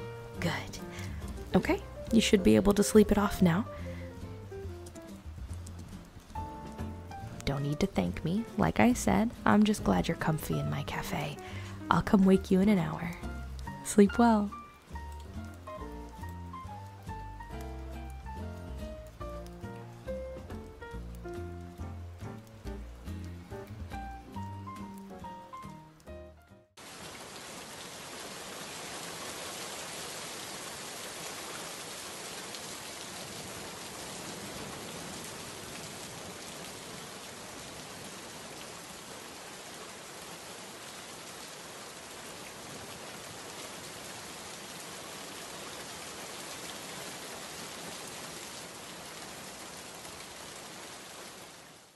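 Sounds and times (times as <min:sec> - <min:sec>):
rain pattering: 0:00.0 - 0:26.2, 0:26.8 - 0:51.9.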